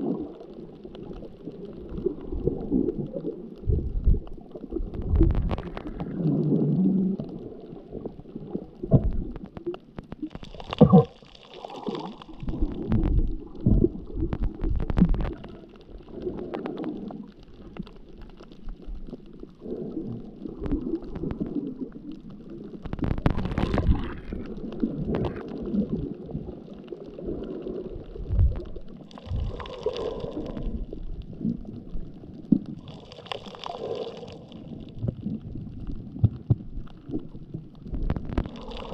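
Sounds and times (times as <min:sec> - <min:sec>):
bubbling gurgles: 0:00.0 - 0:38.9
underwater rumbling of water: 0:00.0 - 0:38.9.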